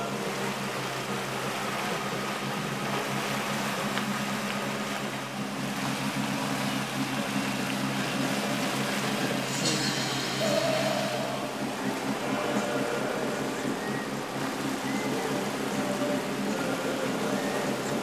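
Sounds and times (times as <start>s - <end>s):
boat engines humming: 0.0s - 18.0s
steady rushing noise: 0.0s - 18.0s.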